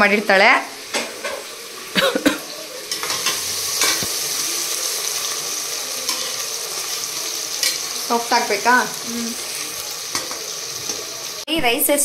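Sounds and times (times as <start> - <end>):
vegetables sizzling in hot oil: 0.0 - 11.9.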